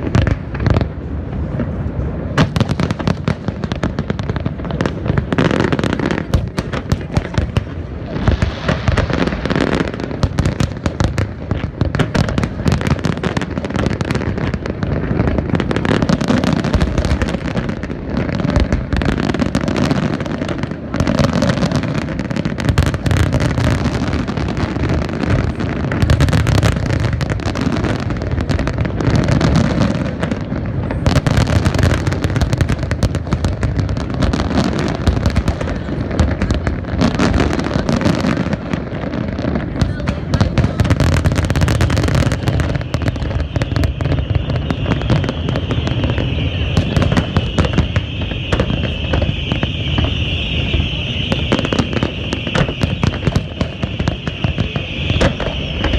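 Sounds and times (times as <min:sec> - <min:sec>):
fireworks booming and crackling: 0:00.0 - 0:55.9.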